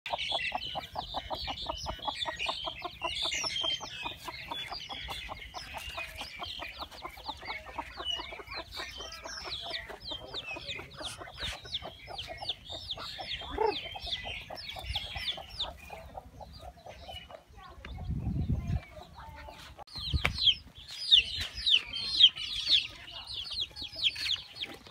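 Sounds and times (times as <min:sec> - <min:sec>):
chickens clucking: 0:00.1 - 0:24.9
chicks peeping: 0:00.1 - 0:24.9.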